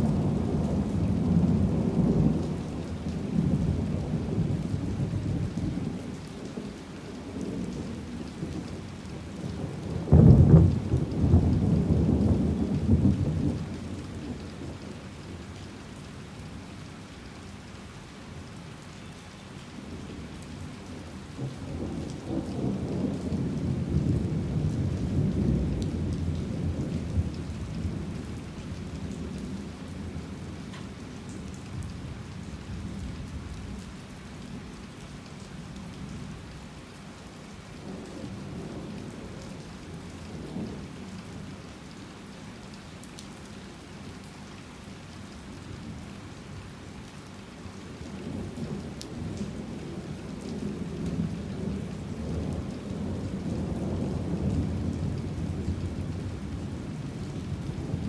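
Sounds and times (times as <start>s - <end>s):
low rumble of thunder: 0.0s - 15.5s, 19.8s - 36.8s, 37.6s - 41.8s, 47.8s - 58.0s
heavy rain falling: 0.0s - 58.0s.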